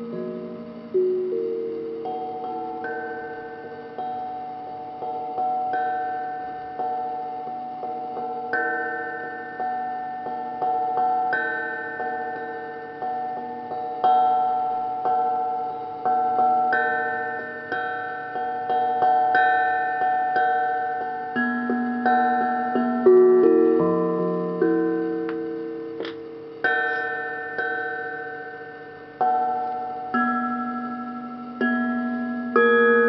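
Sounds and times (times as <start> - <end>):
struck iron instrument notes: 0.0 - 33.0.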